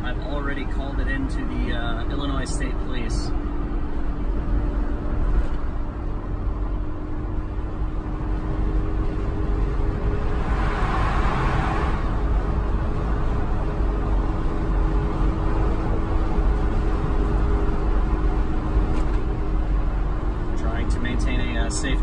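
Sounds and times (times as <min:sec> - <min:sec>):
car cabin road rumble: 0:00.0 - 0:22.0.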